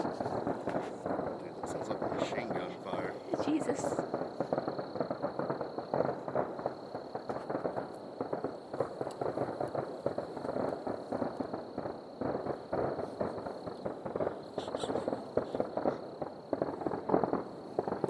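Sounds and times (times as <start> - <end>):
distant fireworks popping: 0.0 - 18.0.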